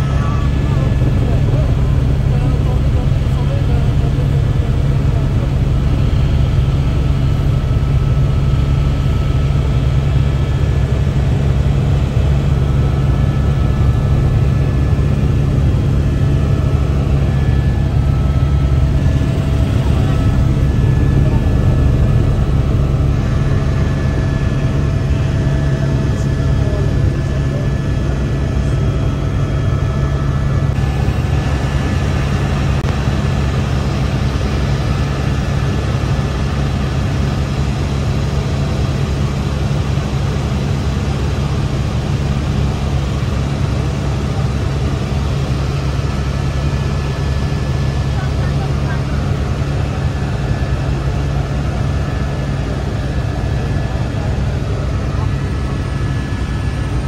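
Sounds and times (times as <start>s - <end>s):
constant whining tones: 0.0s - 57.0s
helicopter engine and rotor drone: 0.0s - 57.0s.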